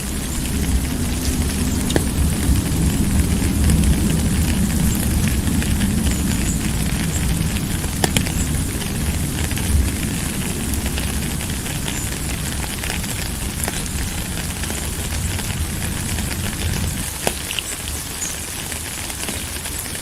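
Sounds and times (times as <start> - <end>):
low rumble: 0.0 - 17.2
raindrops ticking: 0.0 - 20.0
steady rain: 0.0 - 20.0.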